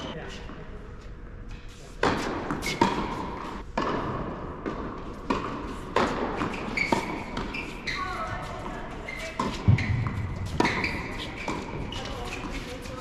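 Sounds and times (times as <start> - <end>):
tennis balls struck and bouncing: 2.0 - 13.0.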